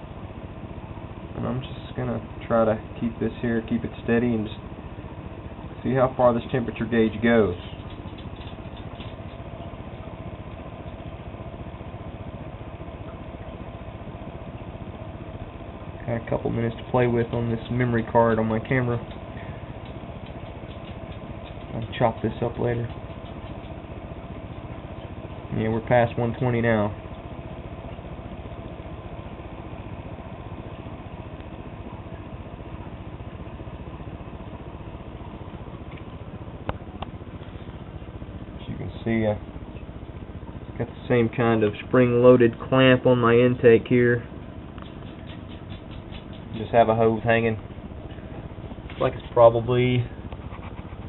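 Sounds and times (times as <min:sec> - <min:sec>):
blower fan humming: 0:00.0 - 0:51.0.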